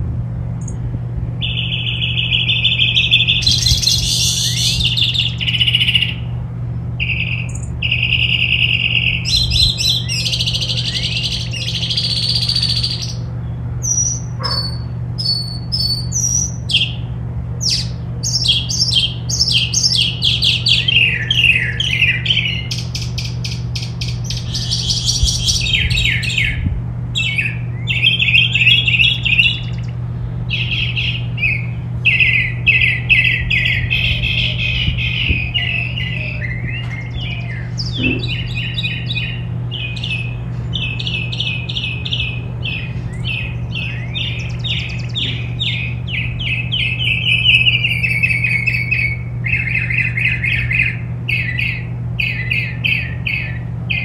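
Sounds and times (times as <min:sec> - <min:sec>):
steady low hum: 0:00.0 - 0:54.0
songbirds chirping and trilling: 0:00.2 - 0:54.0.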